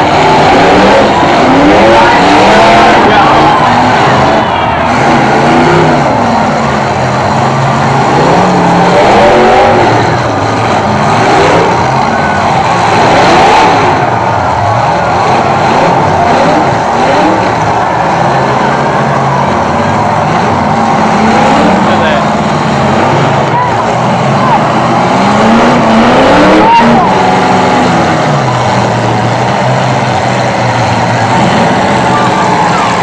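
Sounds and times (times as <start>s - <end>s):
car engines revving hard: 0.0s - 33.0s.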